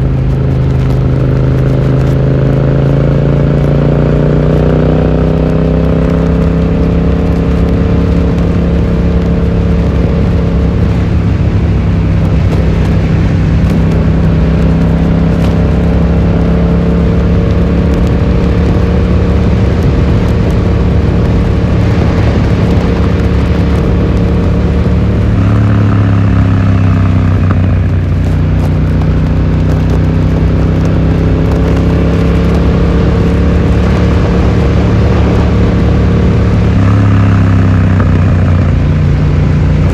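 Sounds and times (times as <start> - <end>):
motorcycle exhaust note: 0.0 - 39.9
wind and road noise: 0.0 - 39.9.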